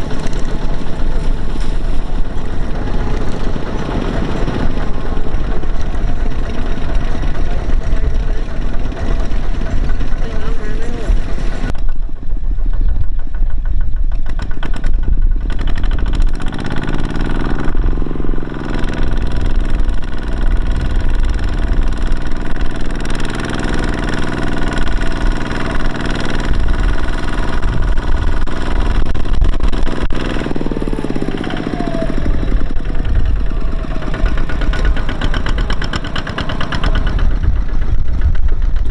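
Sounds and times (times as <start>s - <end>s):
engine revving and idling: 0.0s - 11.8s, 14.0s - 38.9s.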